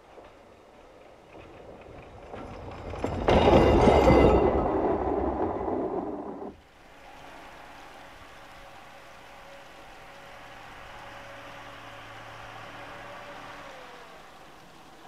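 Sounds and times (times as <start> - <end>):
diesel railbus passing: 0.0 - 15.0.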